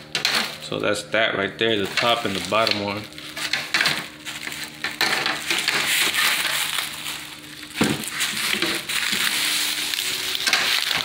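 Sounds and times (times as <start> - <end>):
faint steady hum: 0.0 - 11.0
bubble wrap crinkling: 1.7 - 11.0.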